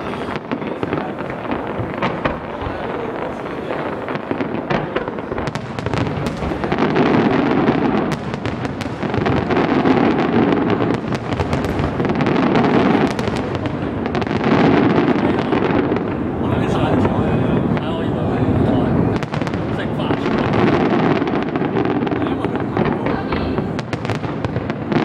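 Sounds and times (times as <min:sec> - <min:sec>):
continuous fireworks rumble: 0:00.0 - 0:25.0
firework cracks and pops: 0:00.0 - 0:25.0.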